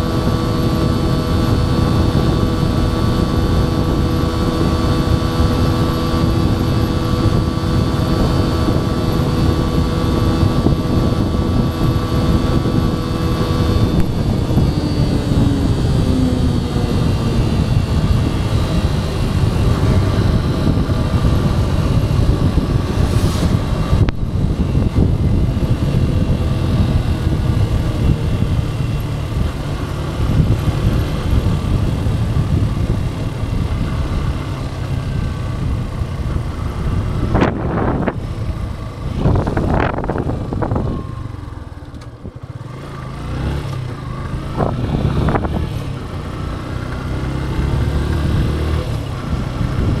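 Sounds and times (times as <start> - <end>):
motorcycle engine running: 0.0 - 50.0
wind and road noise: 0.0 - 50.0.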